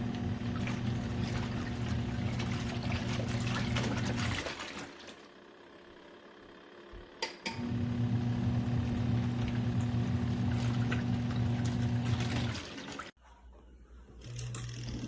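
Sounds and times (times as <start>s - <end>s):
washing machine motor humming: 0.0s - 13.2s.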